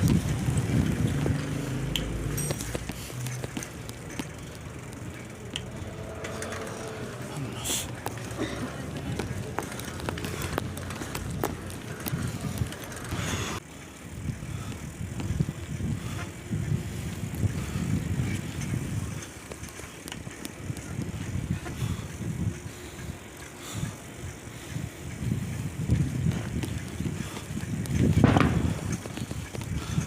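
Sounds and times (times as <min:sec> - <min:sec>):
bicycle being ridden: 0:00.0 - 0:30.0
wind buffeting microphone: 0:00.0 - 0:30.0.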